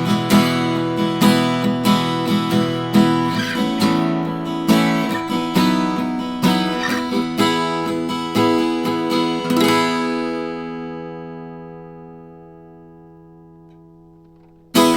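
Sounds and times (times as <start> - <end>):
acoustic guitar strummed: 0.0 - 14.9.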